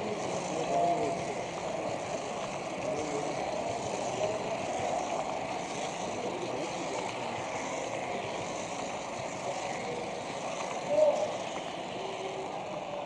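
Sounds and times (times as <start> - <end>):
model train motor hum: 0.0 - 13.0
wheels rolling on track: 0.0 - 13.0.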